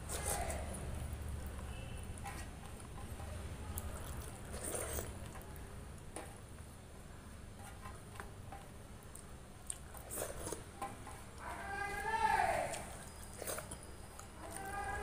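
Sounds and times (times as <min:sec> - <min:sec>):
chewing: 0:00.0 - 0:06.3, 0:07.6 - 0:11.5, 0:12.6 - 0:15.0
wet squishing of rice mixed by hand: 0:00.0 - 0:15.0.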